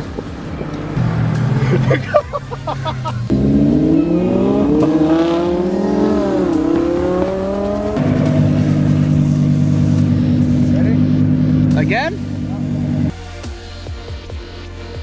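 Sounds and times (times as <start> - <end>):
sports car accelerating hard: 0.0 - 13.2
steady engine drone: 0.0 - 13.2.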